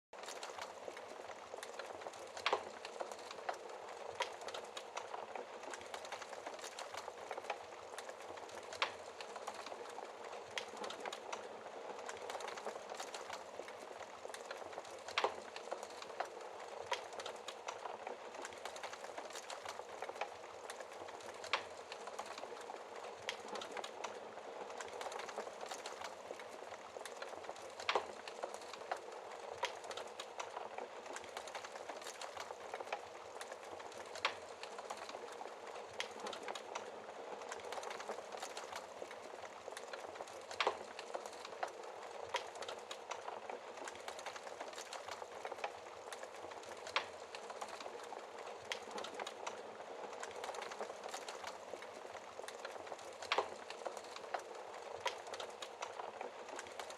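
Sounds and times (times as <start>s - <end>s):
wood fire crackling: 0.2s - 56.9s
wood fire popping: 0.2s - 56.9s
fire flames hissing: 0.3s - 56.9s.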